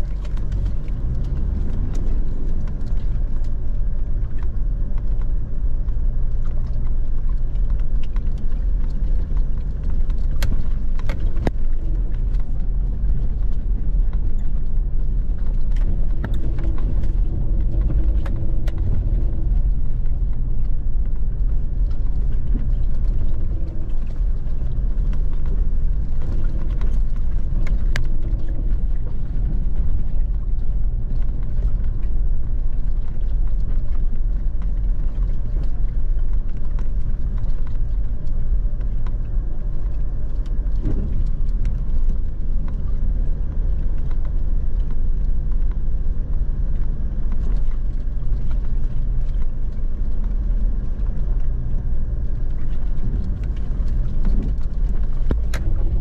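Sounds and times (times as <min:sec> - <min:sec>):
road rumble: 0:00.0 - 0:56.0
vehicle engine drone: 0:00.0 - 0:56.0.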